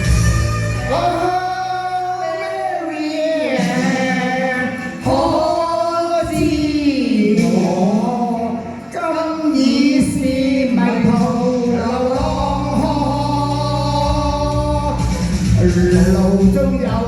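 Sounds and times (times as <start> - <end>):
heavy bass line: 0.0 - 17.0
pop song over pa system: 0.0 - 17.0.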